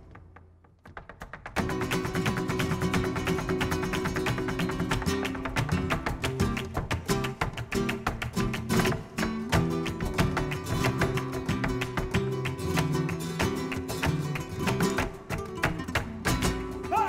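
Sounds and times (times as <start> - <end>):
percussive strikes: 0.0 - 17.0
sharp hand claps: 0.9 - 17.0
acoustic guitars playing flamenco: 1.0 - 17.0.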